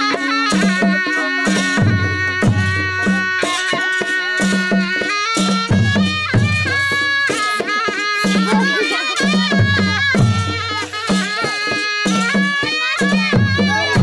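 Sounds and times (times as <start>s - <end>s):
hand drums playing: 0.0s - 14.0s
sustained folk melody: 0.0s - 14.0s.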